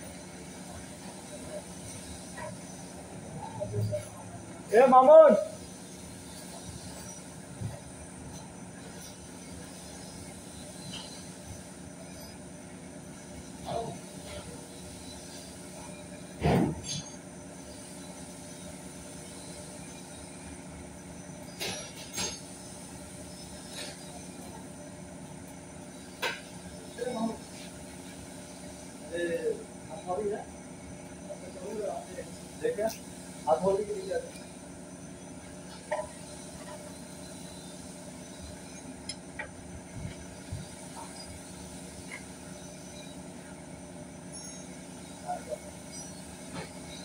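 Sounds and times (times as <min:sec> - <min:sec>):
low workshop hum: 0:00.0 - 0:47.0.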